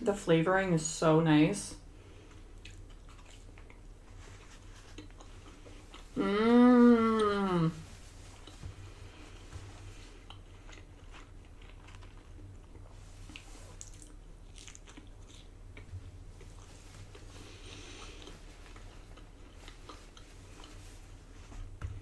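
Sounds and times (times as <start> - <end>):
person chewing bread: 2.0 - 22.0.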